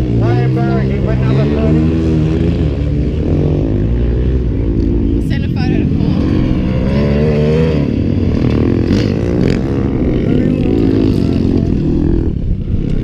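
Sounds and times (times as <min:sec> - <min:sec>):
racing mower engines revving: 0:00.0 - 0:13.0.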